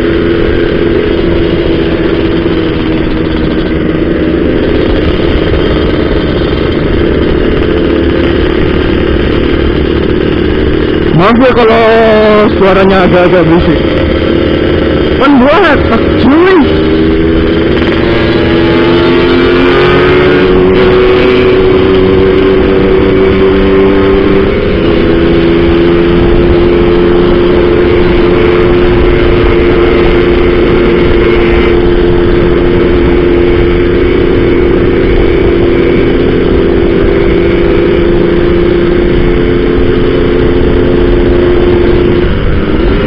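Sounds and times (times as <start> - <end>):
two-stroke motorcycle engine cruising: 0.0 - 43.0
wind and road noise: 0.0 - 43.0.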